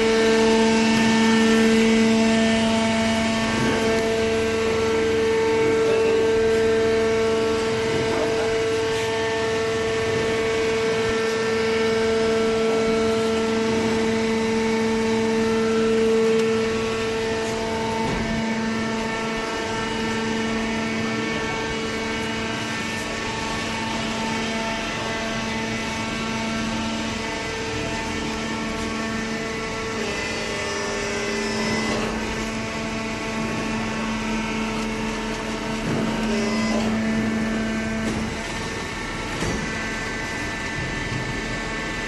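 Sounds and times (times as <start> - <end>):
hydraulic machine humming and whining: 0.0 - 42.0.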